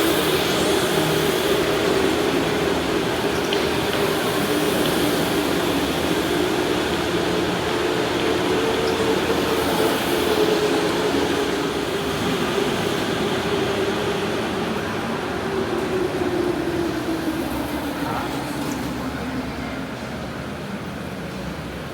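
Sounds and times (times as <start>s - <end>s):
electric go-kart motor humming: 0.0s - 19.4s.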